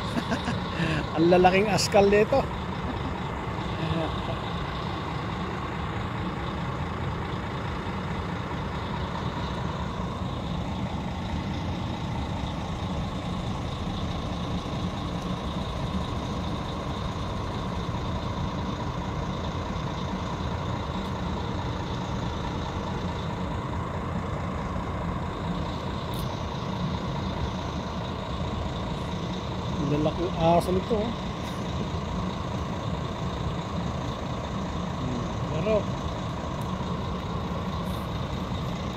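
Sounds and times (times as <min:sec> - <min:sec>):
heavy vehicle engine idling: 0:00.0 - 0:38.9.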